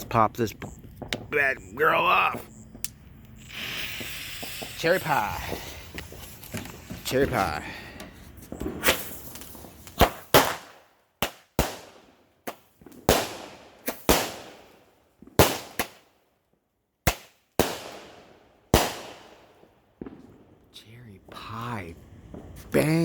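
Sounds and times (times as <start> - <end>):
firework bangs: 0.0 - 16.2, 17.0 - 23.0.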